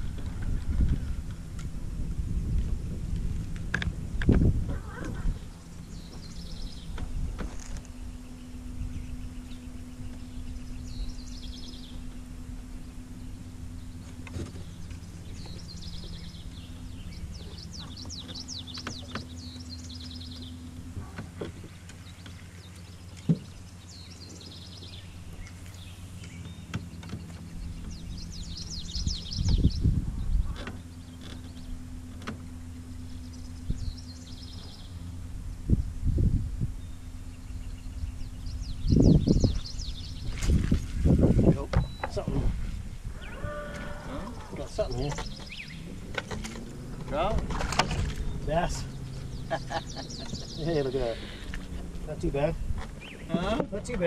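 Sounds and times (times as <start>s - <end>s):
electric trolling motor humming: 0.0s - 54.0s
small birds chirping: 4.7s - 54.0s.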